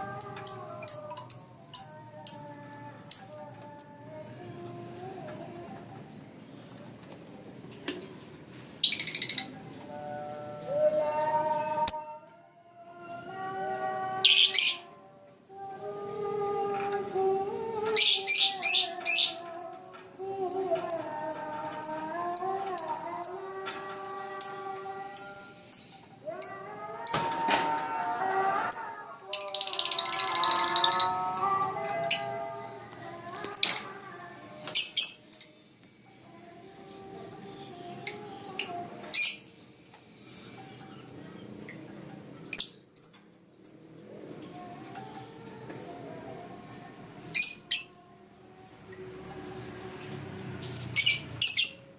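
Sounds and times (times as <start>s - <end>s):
slow sustained background music: 8.6s - 51.9s.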